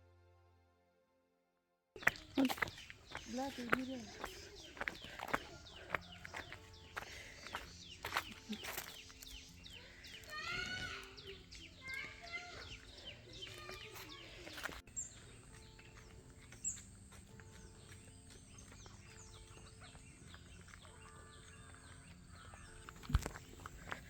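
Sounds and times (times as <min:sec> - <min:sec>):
birds chirping and calling: 0:02.0 - 0:24.0.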